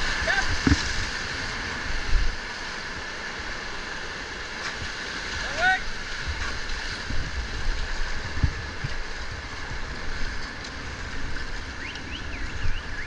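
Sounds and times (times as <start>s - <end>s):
whitewater rushing around raft: 0.0s - 13.0s.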